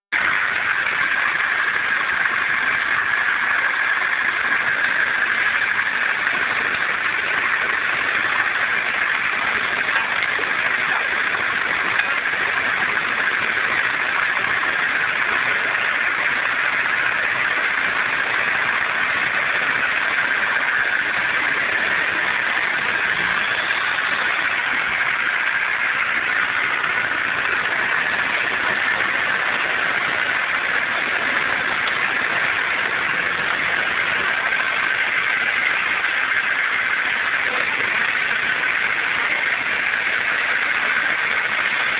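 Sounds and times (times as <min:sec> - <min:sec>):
car engine running: 0:00.1 - 0:41.9.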